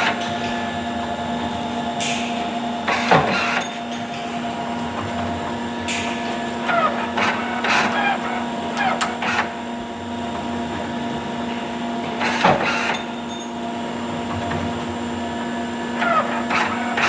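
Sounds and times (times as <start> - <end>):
wire-bending machine humming: 0.0 - 17.0.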